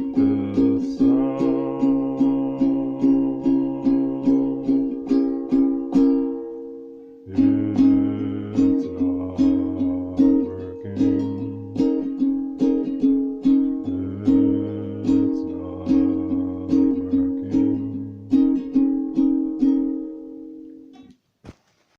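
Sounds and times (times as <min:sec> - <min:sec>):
strummed string instrument chords: 0:00.0 - 0:21.1.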